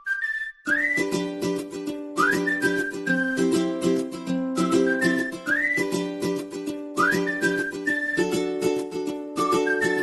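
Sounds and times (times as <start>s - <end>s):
whistled melody: 0.0s - 10.0s
plucked-string accompaniment: 0.7s - 10.0s.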